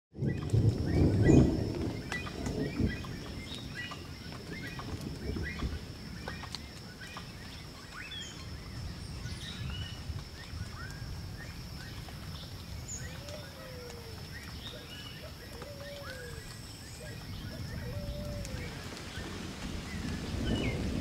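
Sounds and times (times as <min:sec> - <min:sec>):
birds chirping: 0:00.2 - 0:20.9.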